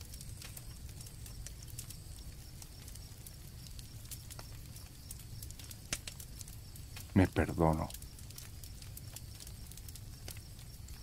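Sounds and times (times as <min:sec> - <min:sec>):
campfire crackling: 0:00.0 - 0:11.0
crickets chirring: 0:00.0 - 0:11.0.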